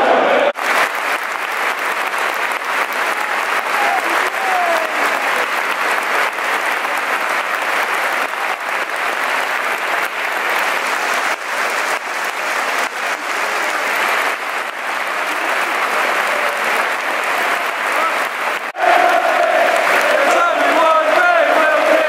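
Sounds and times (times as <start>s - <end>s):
stadium crowd applauding: 0.0s - 22.0s.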